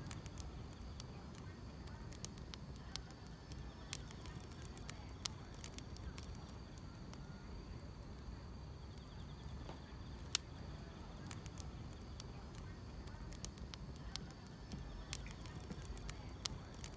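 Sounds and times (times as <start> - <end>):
faint insects chirring: 0.0 - 16.9
wood fire crackling: 0.0 - 16.9.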